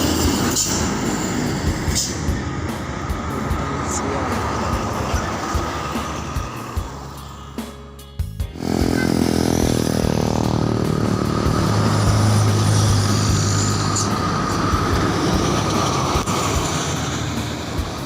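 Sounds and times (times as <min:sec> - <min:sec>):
bus engine passing: 0:00.0 - 0:18.0.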